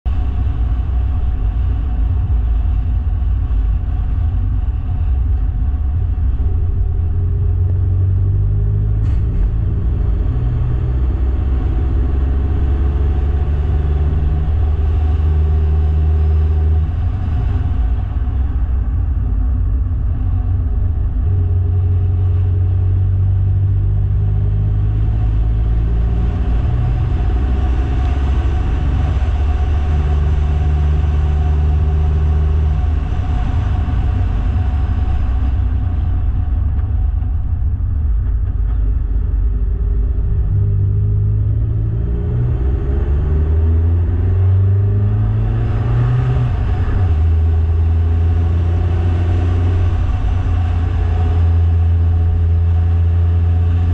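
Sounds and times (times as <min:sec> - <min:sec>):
vehicle engine running: 0:00.0 - 0:53.9.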